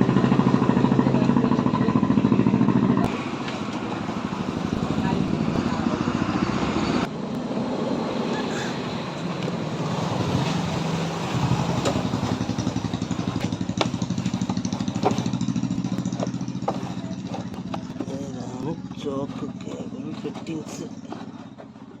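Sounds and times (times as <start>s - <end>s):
motorbike engine running: 0.0s - 7.6s, 9.8s - 22.0s.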